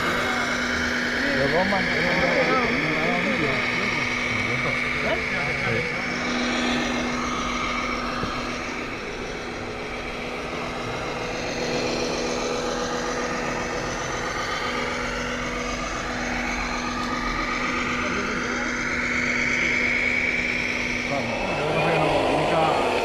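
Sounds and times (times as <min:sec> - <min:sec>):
high motor whine: 0:00.0 - 0:23.0
toy truck motors humming: 0:00.0 - 0:23.0.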